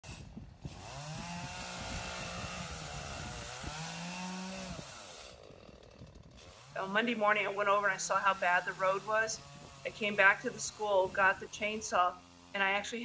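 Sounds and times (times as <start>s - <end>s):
chainsaw cutting branches: 0.0s - 13.0s.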